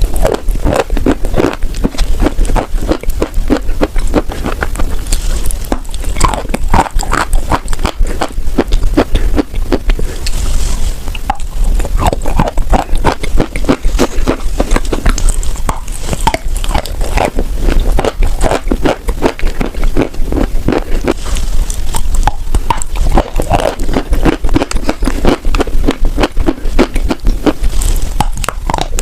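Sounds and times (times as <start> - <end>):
crunching chalk chewing: 0.0 - 29.0
steady low hum: 0.0 - 29.0.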